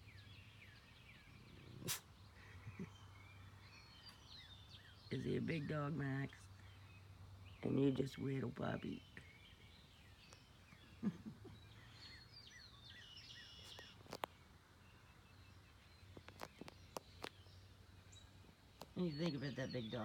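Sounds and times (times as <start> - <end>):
distant birds chirping: 0.0 - 20.0.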